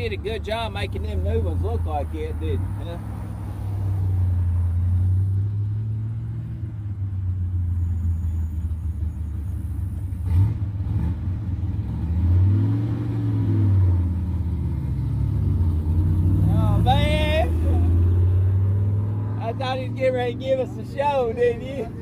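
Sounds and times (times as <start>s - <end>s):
car engine with loud exhaust: 0.0s - 22.0s.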